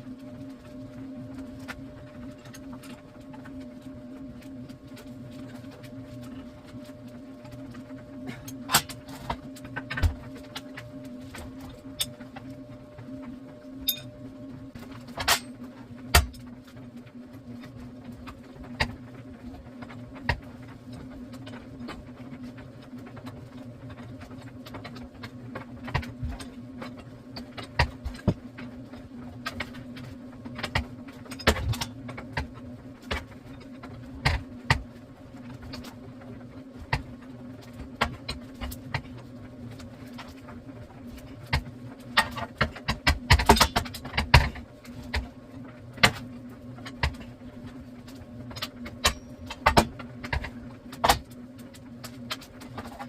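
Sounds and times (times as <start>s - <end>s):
low buzzing hum: 0.0s - 53.0s.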